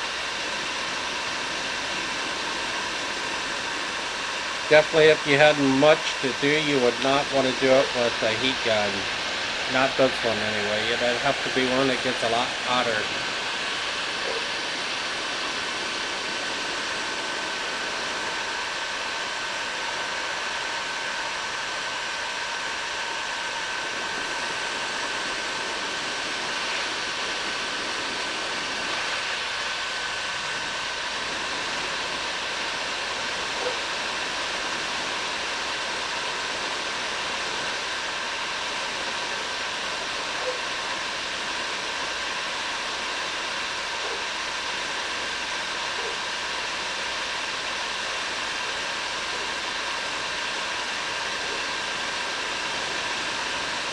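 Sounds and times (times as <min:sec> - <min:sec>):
heat gun blowing air: 0:00.0 - 0:53.9
high motor whine: 0:00.0 - 0:53.9.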